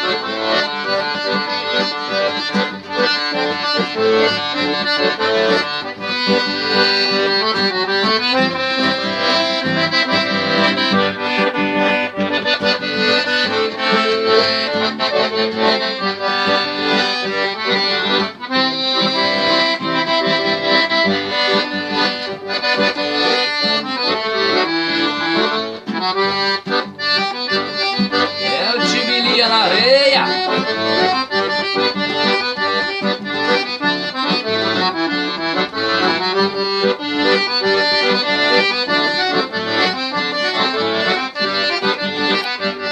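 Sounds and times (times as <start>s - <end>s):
accordion playing: 0.0s - 42.9s.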